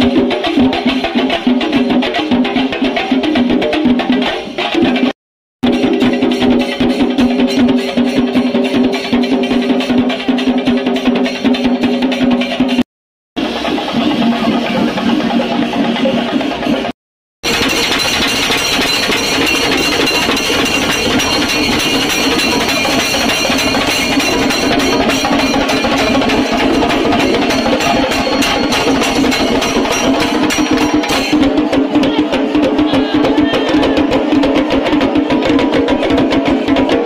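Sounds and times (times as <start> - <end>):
drums beaten fast with sticks: 0.0 - 12.8, 13.4 - 37.0.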